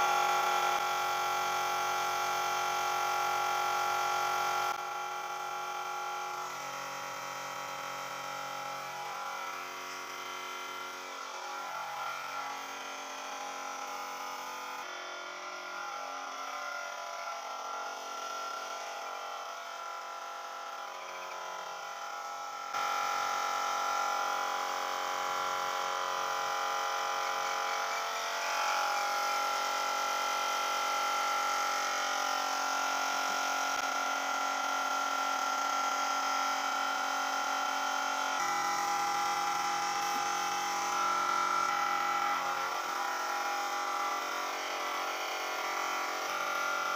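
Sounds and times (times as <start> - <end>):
spray equipment motor whine: 0.0 - 46.9.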